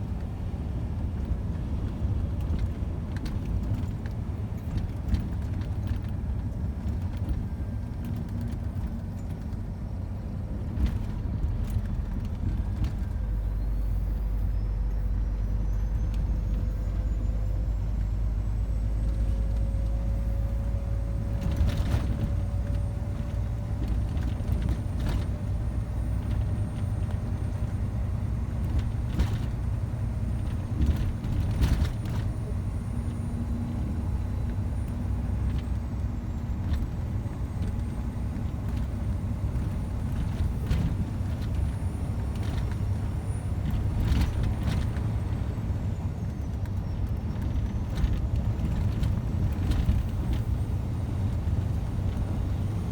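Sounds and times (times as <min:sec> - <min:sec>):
lorry diesel engine drone: 0:00.0 - 0:52.9.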